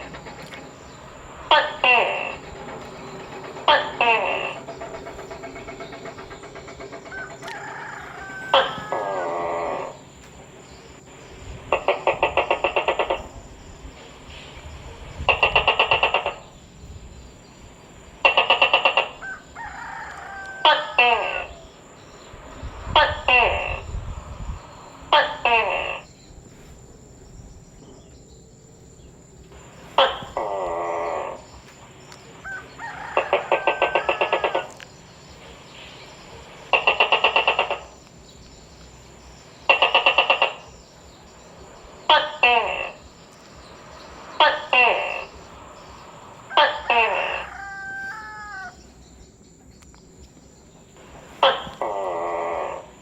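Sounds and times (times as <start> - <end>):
gecko calling: 0.0 - 53.0.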